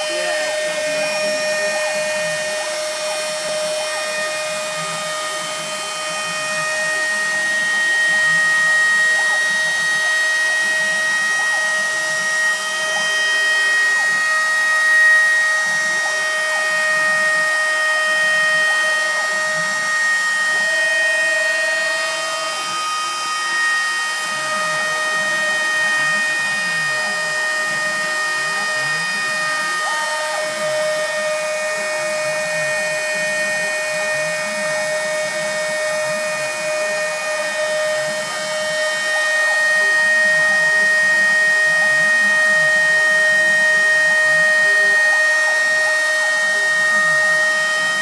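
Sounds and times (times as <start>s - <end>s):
router spindle whining: 0.0s - 48.0s.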